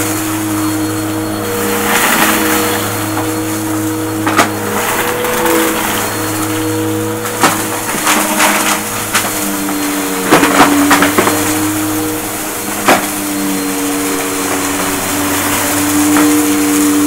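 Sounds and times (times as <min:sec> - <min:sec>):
debris clicking and rattling: 0:00.0 - 0:17.0
vacuum cleaner running: 0:00.0 - 0:17.0.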